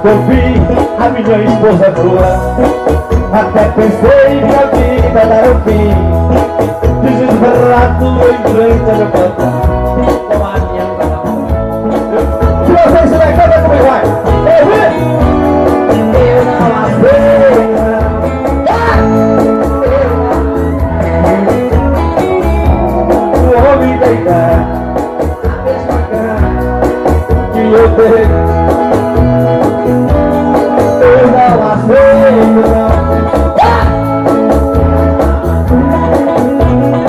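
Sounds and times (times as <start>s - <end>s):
drums: 0.0s - 37.0s
electric guitar: 0.0s - 37.0s
keyboard: 0.0s - 37.0s
live band music: 0.0s - 37.0s.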